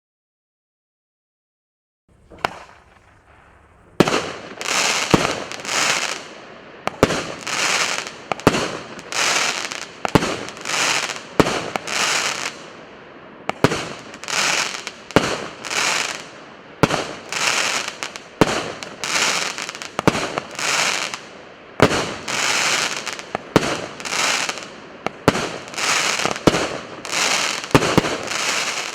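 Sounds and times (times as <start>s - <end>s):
fireworks bangs with hiss: 2.1s - 28.9s.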